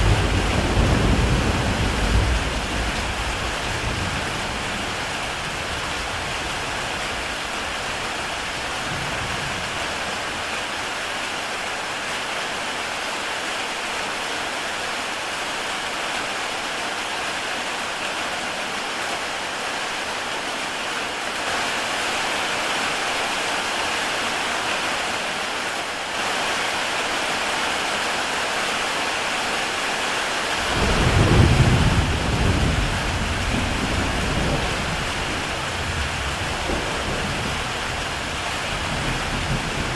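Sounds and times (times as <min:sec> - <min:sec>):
heavy rain on a tile roof: 0:00.0 - 0:39.9.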